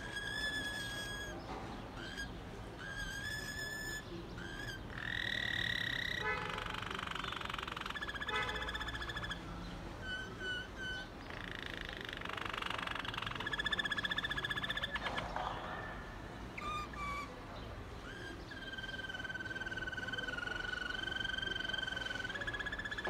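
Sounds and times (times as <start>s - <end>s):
canary singing trills and whistle: 0.0s - 23.0s.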